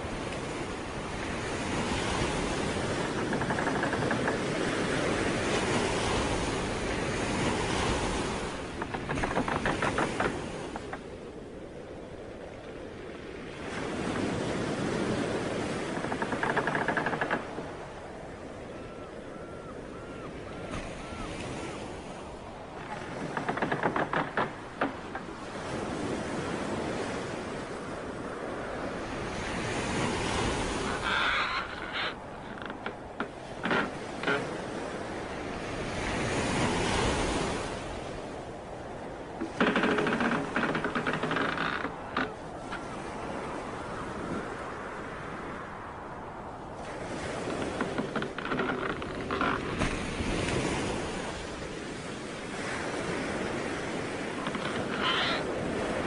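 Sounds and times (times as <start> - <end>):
sea waves washing ashore: 0.0 - 56.0
wind on microphone: 0.0 - 56.0.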